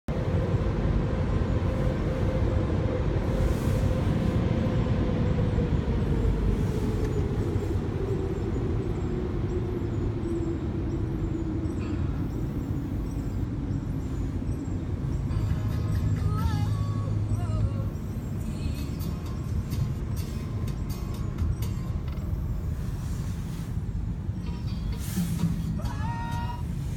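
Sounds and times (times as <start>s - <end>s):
car wash machinery rumble: 0.1s - 26.9s
machine hum: 0.1s - 26.9s.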